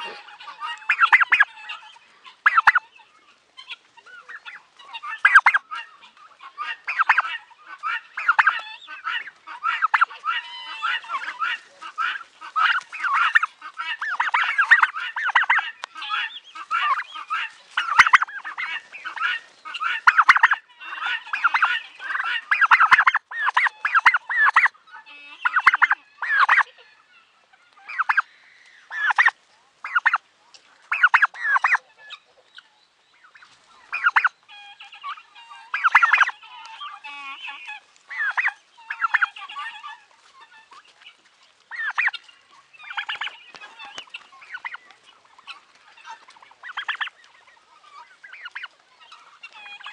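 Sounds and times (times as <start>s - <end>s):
turkeys gobbling: 0.0s - 49.9s.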